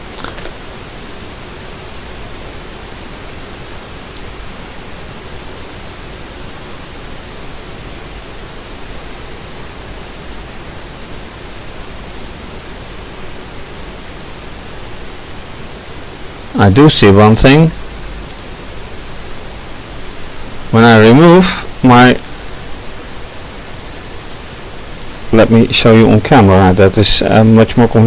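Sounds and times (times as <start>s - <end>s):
faint low hum: 0.0s - 28.0s
steady background hiss: 0.0s - 28.0s.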